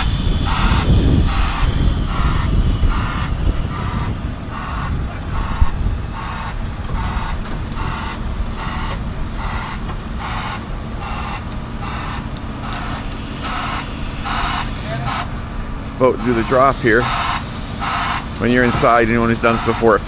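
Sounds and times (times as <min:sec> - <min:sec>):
backup alarm beeping: 0:00.0 - 0:20.0
diesel engine rumble: 0:00.0 - 0:20.0.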